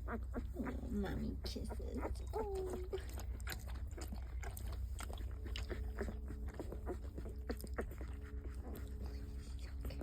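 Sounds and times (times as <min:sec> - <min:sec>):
dog licking puppies: 0:00.0 - 0:10.0.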